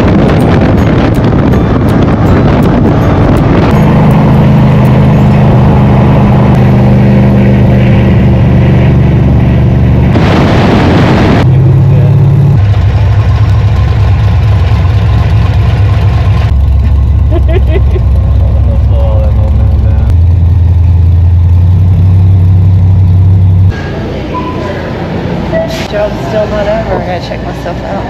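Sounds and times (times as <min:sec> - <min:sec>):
car engine running: 0:00.0 - 0:24.2.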